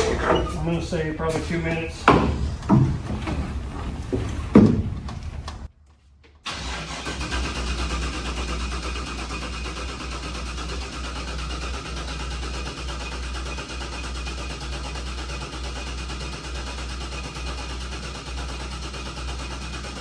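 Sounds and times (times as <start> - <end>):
race car engine idling: 0.0 - 5.7, 6.6 - 20.0.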